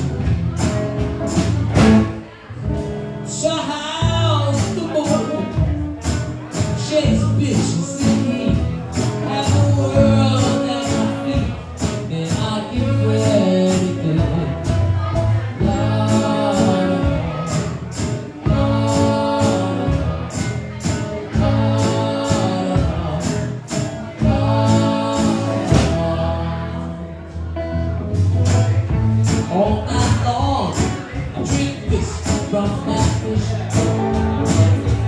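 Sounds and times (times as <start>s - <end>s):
drums keeping a steady beat: 0.0s - 26.8s, 28.0s - 35.0s
strummed acoustic guitar: 0.0s - 35.0s
man singing lead: 3.2s - 27.5s, 28.4s - 35.0s.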